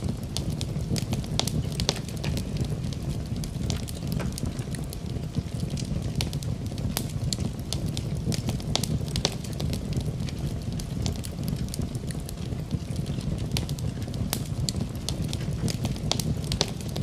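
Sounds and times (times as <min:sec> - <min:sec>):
fire crackles and pops: 0:00.0 - 0:17.0
fire flames roaring: 0:00.0 - 0:17.0.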